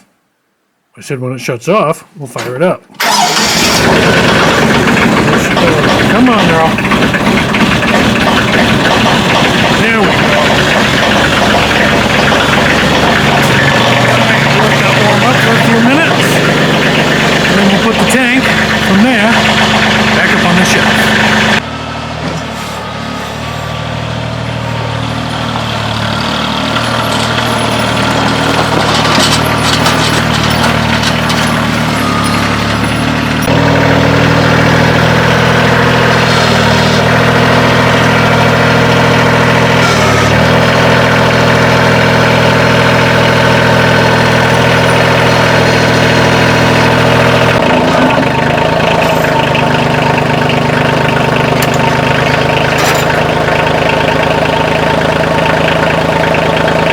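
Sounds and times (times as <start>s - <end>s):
tractor diesel engine idling: 2.4s - 56.9s.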